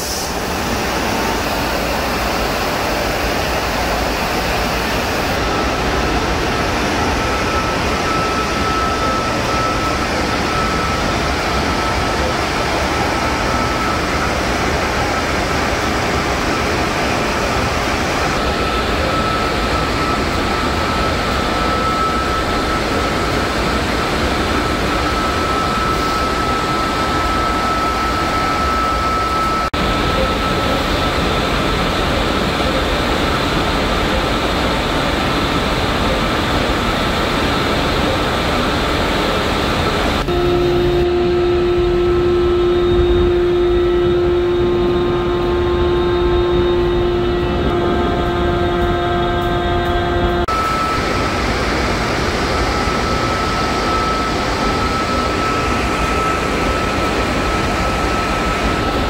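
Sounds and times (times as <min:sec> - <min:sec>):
engine room machinery din: 0:00.0 - 0:59.0
high-pitched machine whine: 0:00.0 - 0:59.0.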